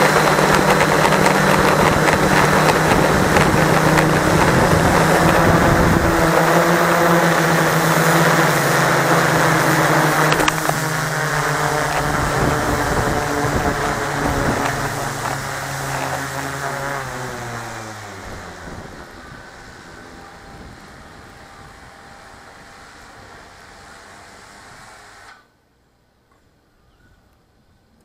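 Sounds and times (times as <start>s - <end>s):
drone motors whining: 0.0s - 24.6s.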